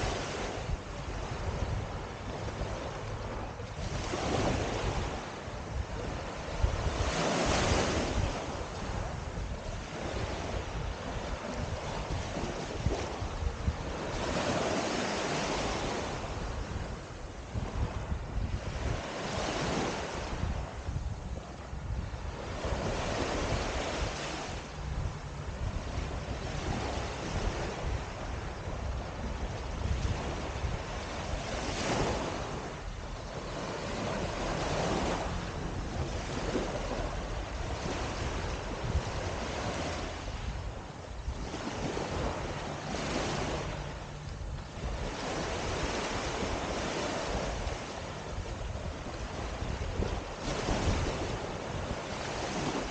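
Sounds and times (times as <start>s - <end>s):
small waves breaking on sand: 0.0s - 52.9s
wind on microphone: 0.0s - 52.9s.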